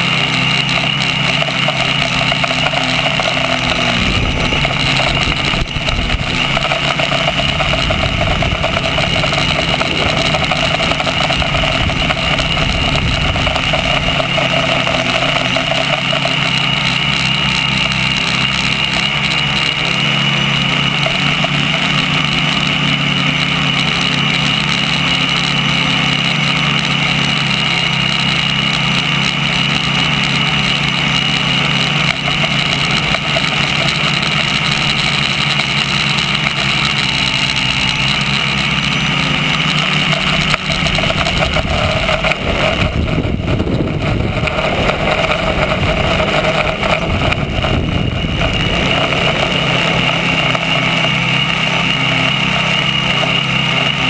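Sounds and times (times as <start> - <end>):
drone motors whining and buzzing: 0.0 - 54.0.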